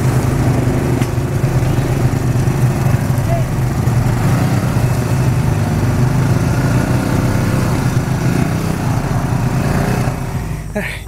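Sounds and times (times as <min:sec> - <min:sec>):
quad bike engines passing: 0:00.0 - 0:11.0.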